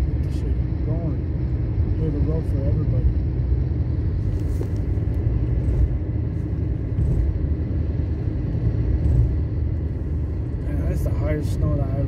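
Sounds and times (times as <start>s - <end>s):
car engine: 0.0s - 12.0s
car road and tyre noise: 0.0s - 12.0s.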